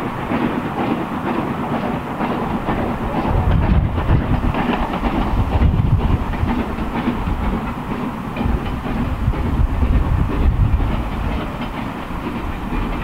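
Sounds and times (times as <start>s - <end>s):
steam train rumbling past: 0.0s - 13.0s.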